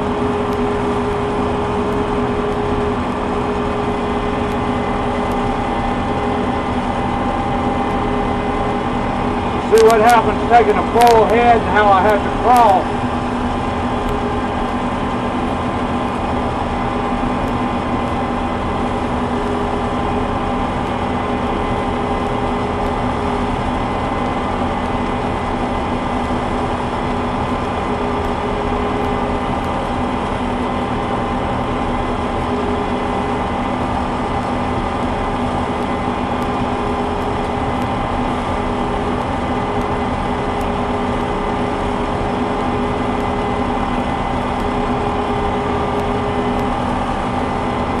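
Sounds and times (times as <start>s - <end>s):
combine harvester droning: 0.0s - 48.0s.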